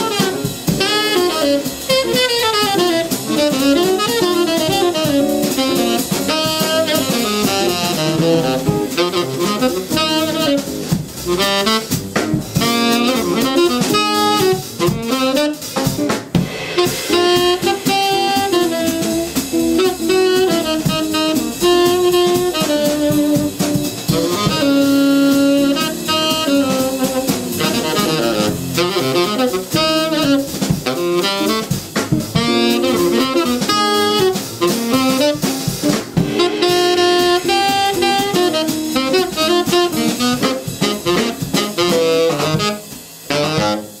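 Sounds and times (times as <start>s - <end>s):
tenor saxophone: 0.0s - 15.9s, 16.7s - 44.0s
drum kit: 0.0s - 44.0s
upright bass: 0.0s - 44.0s.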